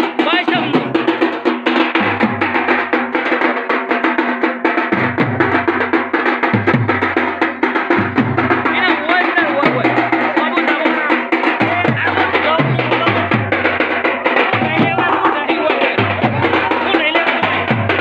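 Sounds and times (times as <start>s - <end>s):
dhol drums beating: 0.0s - 18.0s.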